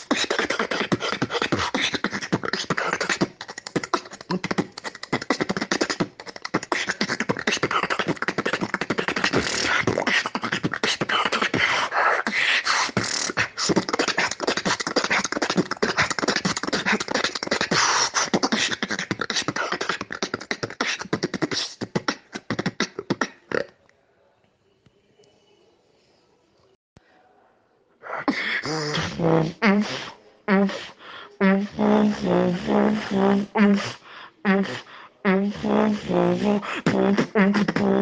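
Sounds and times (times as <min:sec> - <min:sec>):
person beatboxing: 0:00.0 - 0:23.7, 0:28.1 - 0:38.0.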